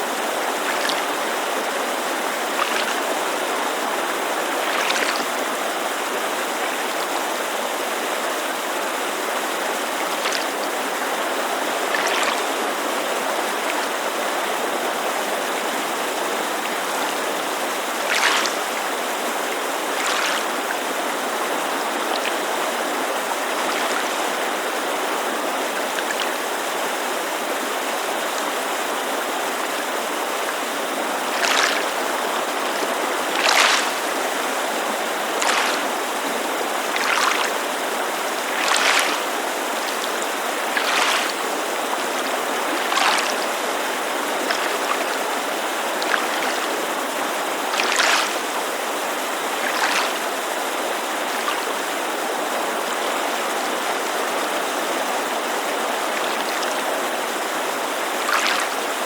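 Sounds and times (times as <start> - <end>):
creek rushing: 0.0 - 59.0
small waves lapping shore: 0.0 - 59.0.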